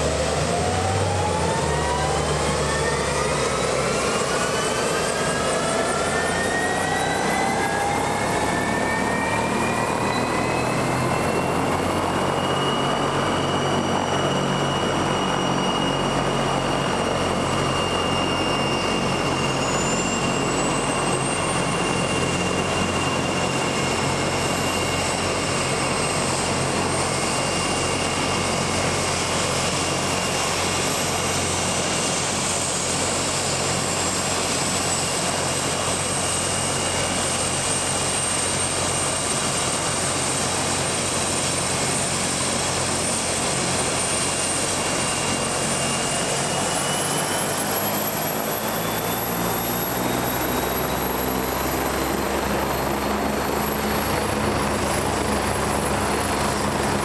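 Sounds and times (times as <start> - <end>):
high turbine whine: 0.0 - 57.0.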